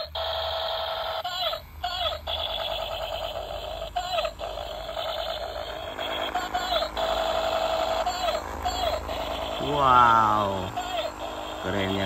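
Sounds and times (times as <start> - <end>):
toy rifle electronic rattle: 0.0 - 12.0.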